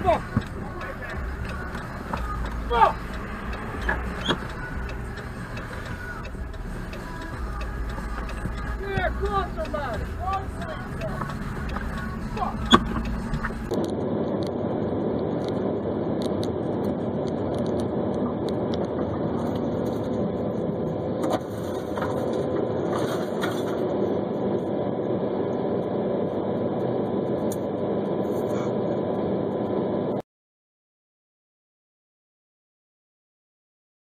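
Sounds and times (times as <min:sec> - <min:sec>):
car engine and road noise: 0:00.0 - 0:30.2.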